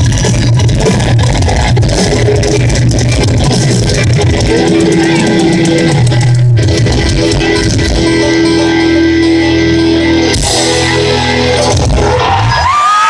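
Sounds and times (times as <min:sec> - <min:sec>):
country-rock band playing: 0:00.0 - 0:13.0
electric guitar long notes: 0:00.0 - 0:13.0.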